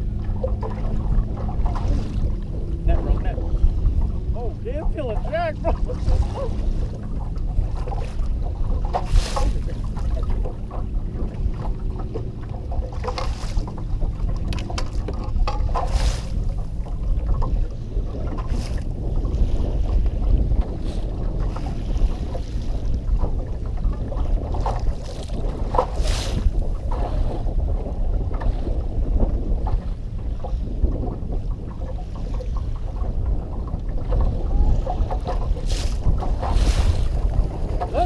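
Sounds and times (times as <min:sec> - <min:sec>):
short water splashes: 0:00.0 - 0:38.0
steady low rumble: 0:00.0 - 0:38.0
water lapping against boat hull: 0:00.0 - 0:38.0
wind on microphone: 0:00.0 - 0:38.0.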